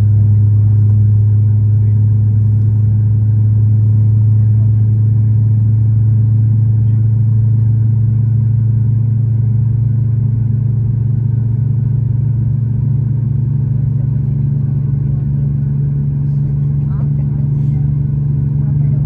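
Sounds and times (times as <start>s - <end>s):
jet engine drone in cabin: 0.0s - 19.0s.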